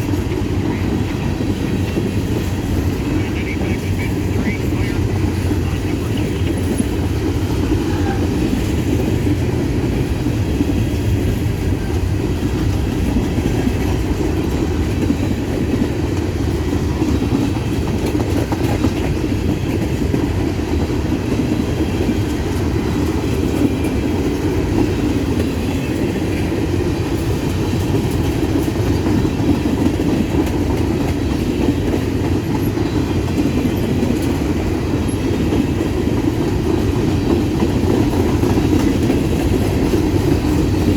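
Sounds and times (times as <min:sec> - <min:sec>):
train wheels clattering over rail joints: 0:06.3 - 0:40.9.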